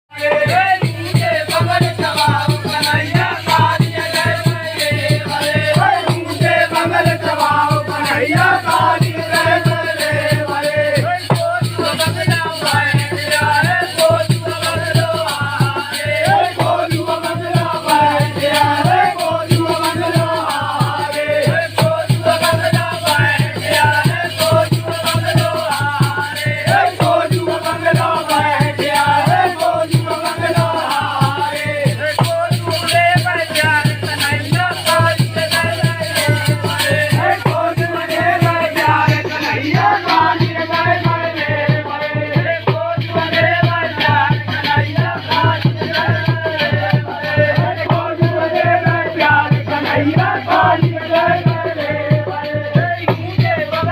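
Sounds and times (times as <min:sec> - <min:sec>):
fast percussion: 0:00.1 - 0:53.9
old man singing folk song: 0:00.1 - 0:53.9.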